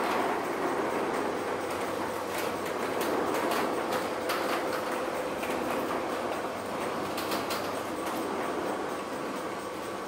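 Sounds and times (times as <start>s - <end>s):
metal rolling shutter rattling: 0.0s - 8.7s
sharp clacks: 0.0s - 9.9s.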